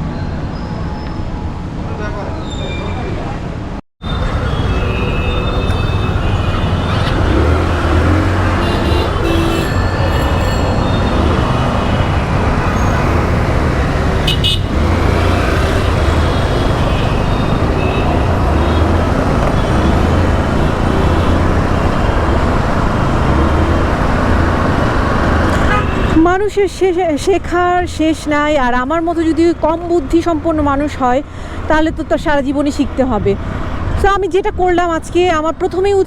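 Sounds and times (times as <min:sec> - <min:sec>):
road traffic rushing: 0:01.2 - 0:36.0.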